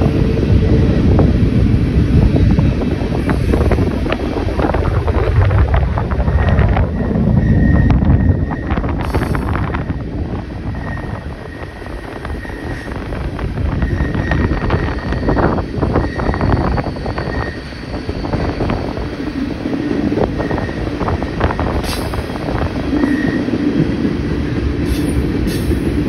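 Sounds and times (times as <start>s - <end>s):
moving vehicle rumble: 0.0s - 26.0s
wind buffeting microphone: 0.0s - 26.0s.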